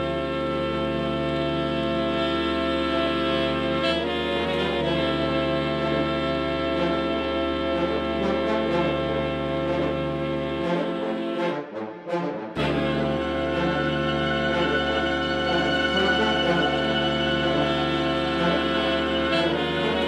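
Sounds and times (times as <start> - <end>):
music of long held chords: 0.0 - 11.6, 12.6 - 20.0.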